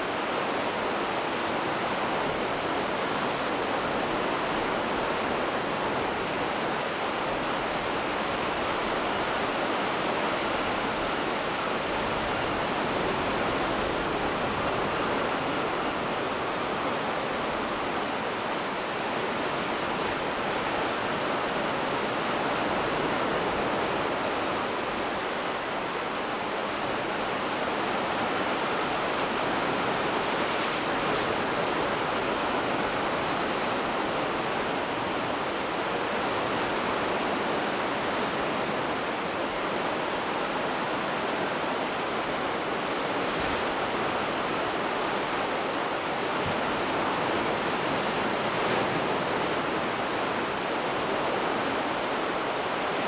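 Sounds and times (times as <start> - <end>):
sea surf washing: 0.0 - 53.0.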